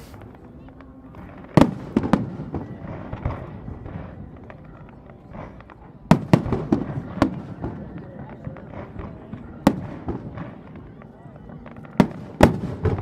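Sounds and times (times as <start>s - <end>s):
fireworks bangs: 0.0s - 13.0s
fireworks pops and crackles: 0.0s - 13.0s.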